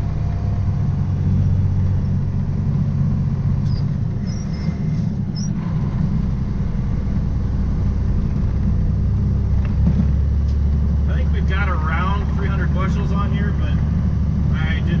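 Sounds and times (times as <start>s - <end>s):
diesel truck engine droning: 0.0s - 15.0s.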